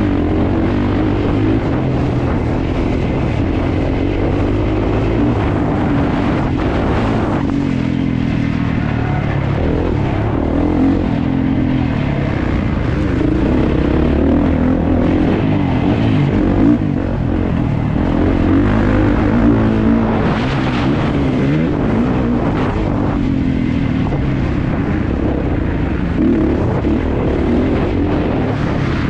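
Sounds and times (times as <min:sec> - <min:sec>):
motocross engine revving: 0:00.0 - 0:29.0.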